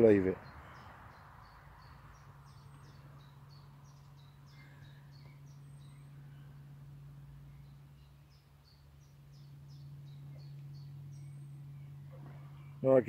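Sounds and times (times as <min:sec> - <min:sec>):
steady low hum: 0:00.0 - 0:13.0
small bird chirping: 0:00.3 - 0:12.8.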